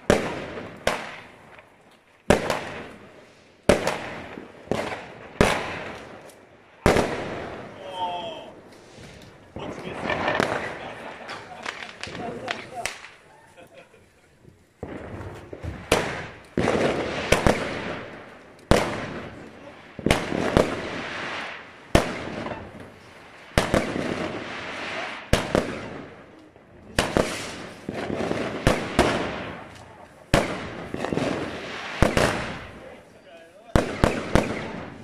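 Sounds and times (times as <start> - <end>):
firework bangs: 0.0 - 35.0.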